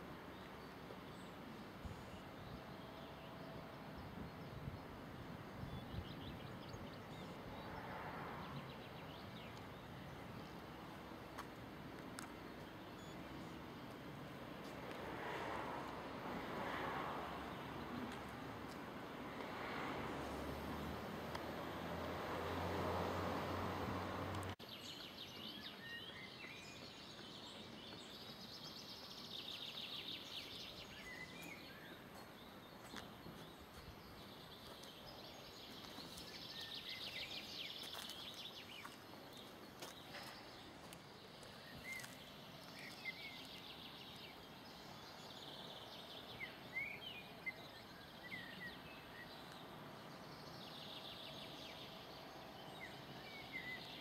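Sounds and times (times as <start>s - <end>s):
faint outdoor background: 0.0s - 54.0s
songbirds singing: 0.0s - 54.0s.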